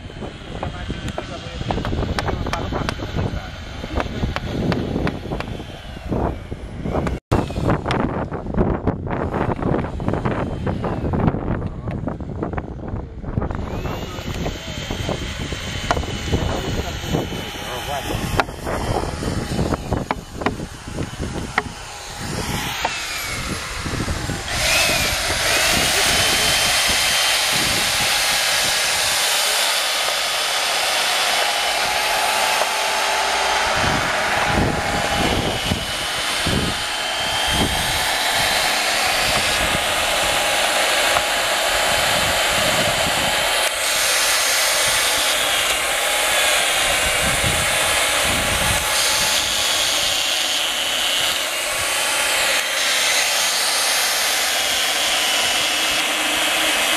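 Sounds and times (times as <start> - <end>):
chainsaw cutting wood: 0.0 - 12.8, 13.4 - 56.9.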